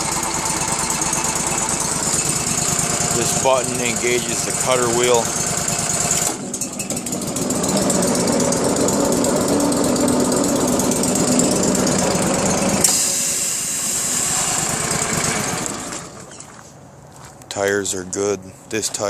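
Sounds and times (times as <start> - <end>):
stump grinder clattering: 0.0 - 16.6.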